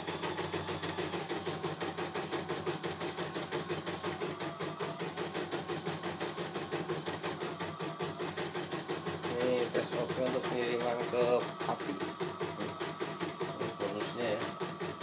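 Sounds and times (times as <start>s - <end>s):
embroidery machine stitching: 0.0s - 15.0s.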